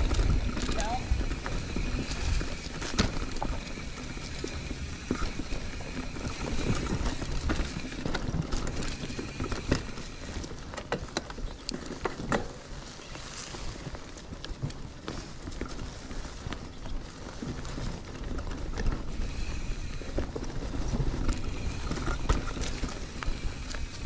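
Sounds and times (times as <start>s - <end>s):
bike clicks and rattles: 0.0s - 24.0s
bike tyres on dirt trail: 0.0s - 24.0s
low wind rumble: 0.0s - 24.0s.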